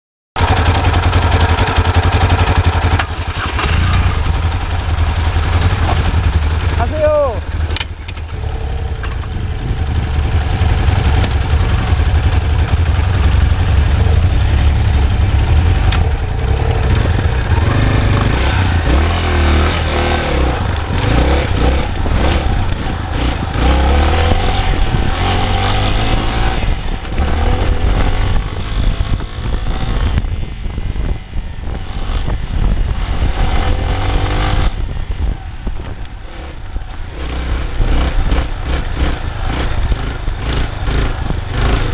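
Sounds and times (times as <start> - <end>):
dirt bike engine revving: 0.4 - 41.9
wind rumble on microphone: 4.0 - 41.9.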